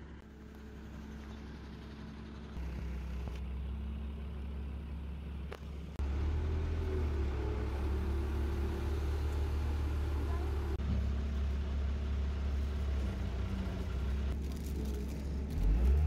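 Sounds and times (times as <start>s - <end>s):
diesel engines rumbling: 0.0s - 16.0s.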